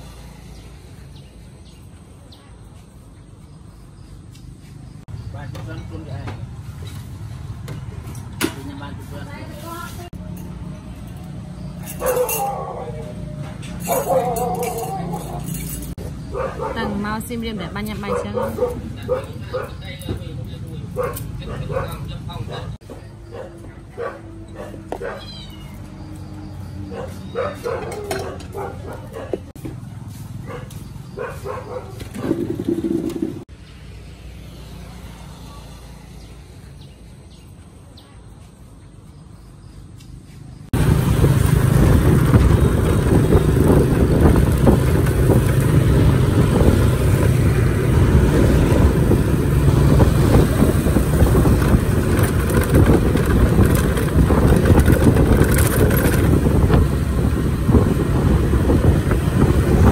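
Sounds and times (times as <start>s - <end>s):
moving vehicle noise: 0.0s - 59.9s.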